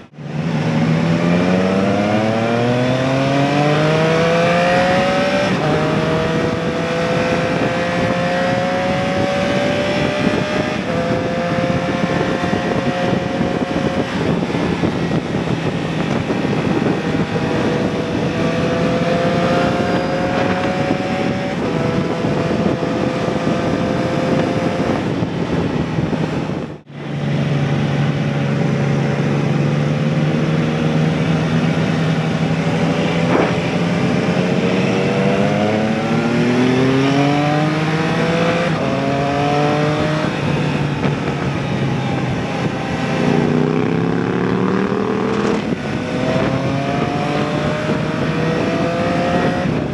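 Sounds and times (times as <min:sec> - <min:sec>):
motorcycle engine accelerating: 0:00.0 - 0:49.9
wind rush: 0:00.0 - 0:49.9.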